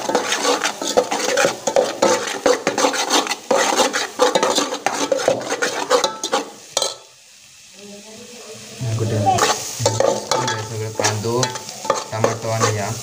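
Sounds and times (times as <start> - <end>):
metal spoon scraping pot: 0.0 - 7.0, 9.4 - 13.0.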